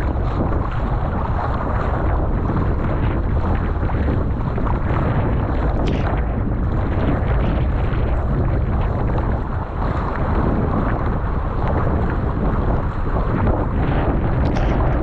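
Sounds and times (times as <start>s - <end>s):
water rushing around boat: 0.0s - 15.0s
wind buffeting microphone: 0.0s - 15.0s.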